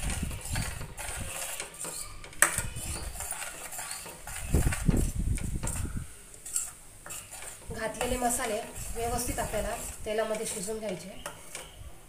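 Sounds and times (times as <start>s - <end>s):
spatula scraping paste in pan: 0.0s - 11.8s.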